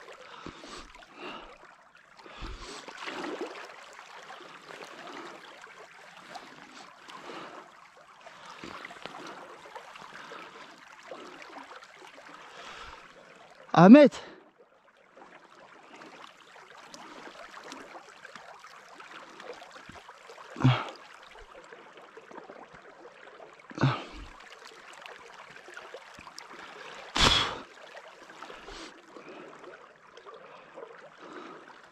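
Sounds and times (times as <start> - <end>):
creek water running: 0.0 - 31.9.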